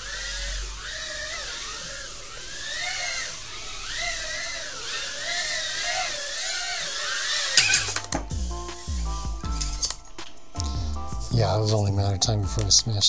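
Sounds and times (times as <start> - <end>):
drone motors whining: 0.0 - 12.7.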